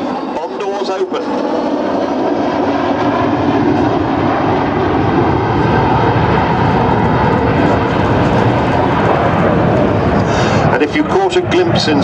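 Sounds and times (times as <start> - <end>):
jet bomber rumble: 0.0 - 12.0.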